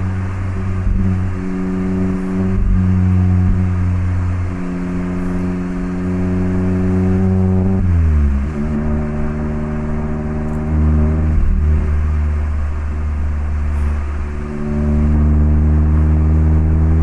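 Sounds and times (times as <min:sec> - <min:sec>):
car exhaust while driving: 0:00.0 - 0:17.0.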